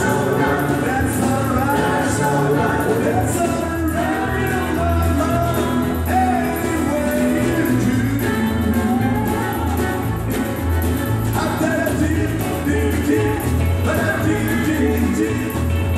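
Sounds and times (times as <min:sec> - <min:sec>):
country band playing: 0:00.0 - 0:15.9
man singing: 0:00.0 - 0:15.9.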